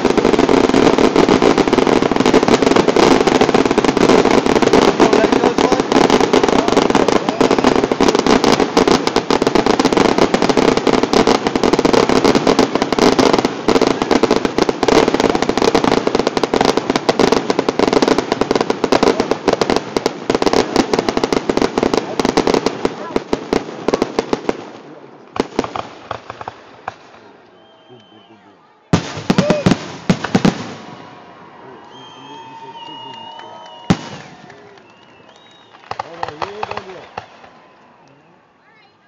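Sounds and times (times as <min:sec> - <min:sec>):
fireworks bursts and crackles: 0:00.0 - 0:28.3, 0:28.9 - 0:38.2.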